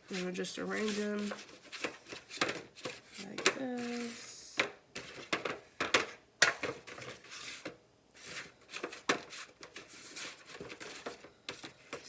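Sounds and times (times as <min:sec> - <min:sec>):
pellets scraping in a pan: 0:00.0 - 0:04.4, 0:06.4 - 0:12.0
pellets clicking and tapping: 0:00.1 - 0:12.0.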